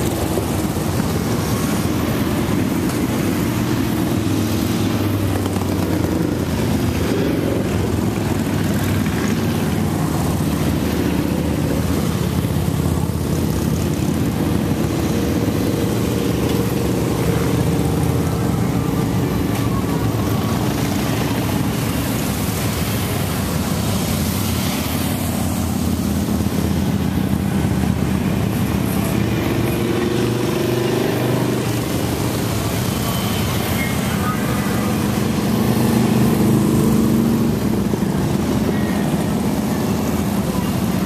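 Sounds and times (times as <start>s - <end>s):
motorcycles riding past: 0.0s - 41.0s.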